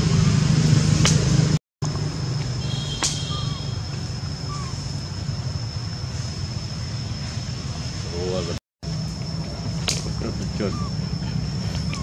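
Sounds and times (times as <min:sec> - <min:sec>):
high-pitched insect drone: 0:02.0 - 0:12.0.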